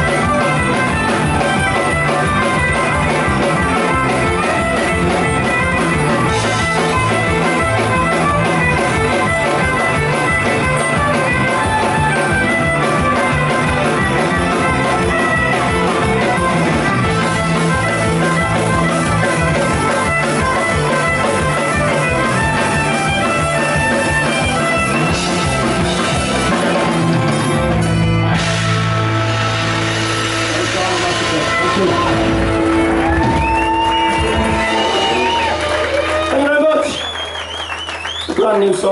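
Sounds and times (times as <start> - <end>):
folk-punk band playing: 0.0 - 38.9.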